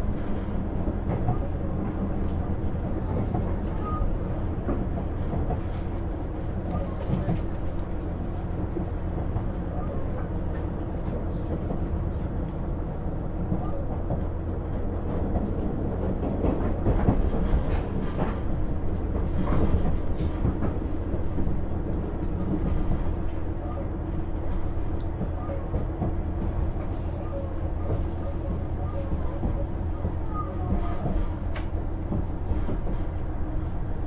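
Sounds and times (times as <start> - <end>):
wheel and rail rumble: 0.0 - 34.0.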